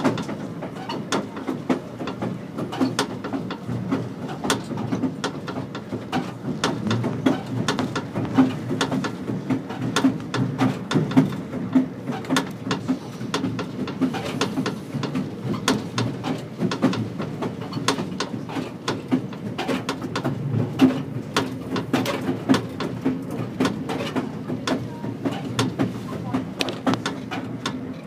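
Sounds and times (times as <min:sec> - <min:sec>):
train rumble from inside: 0:00.0 - 0:28.0
wheels clattering on track: 0:00.0 - 0:28.0.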